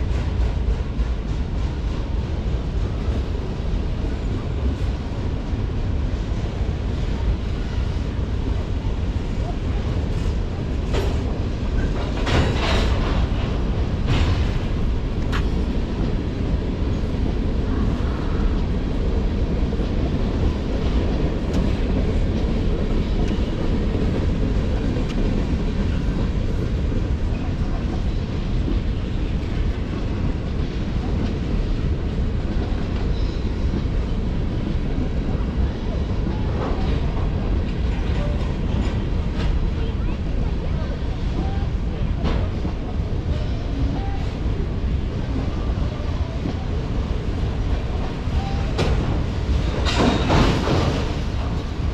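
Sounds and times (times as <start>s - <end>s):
train clicks and squeals: 0.0s - 5.4s, 6.3s - 19.0s, 19.9s - 51.9s
freight train rumbling on rails: 0.0s - 51.9s.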